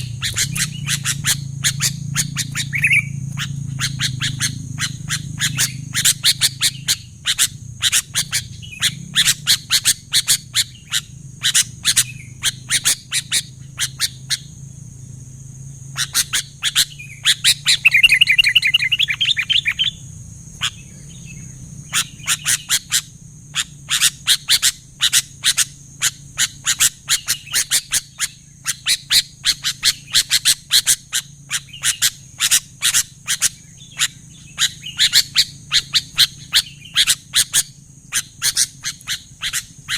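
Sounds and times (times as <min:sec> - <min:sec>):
bird chirping: 0:00.0 - 0:39.9
rapid bird trill: 0:00.0 - 0:39.9.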